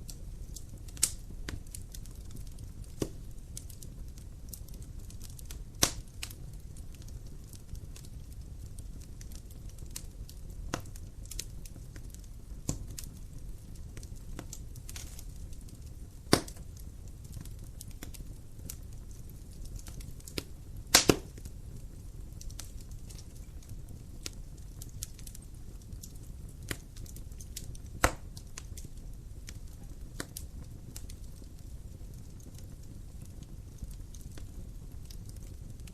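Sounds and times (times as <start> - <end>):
low rumble of flame: 0.0 - 35.9
sharp pops of fire: 0.0 - 35.9
wood fire crackling: 0.0 - 35.9.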